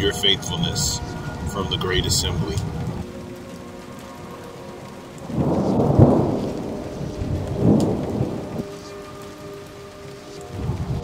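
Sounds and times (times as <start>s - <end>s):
steady rain hiss: 0.0s - 11.0s
thunder rolling: 0.0s - 11.0s.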